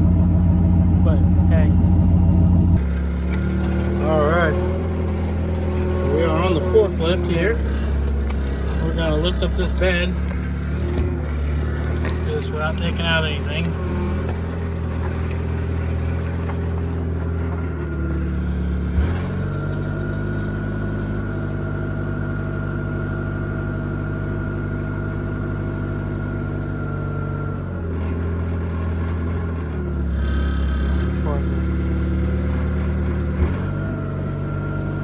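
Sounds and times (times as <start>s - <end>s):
forklift engine running: 0.0s - 35.0s
hydraulic whine: 0.0s - 35.0s.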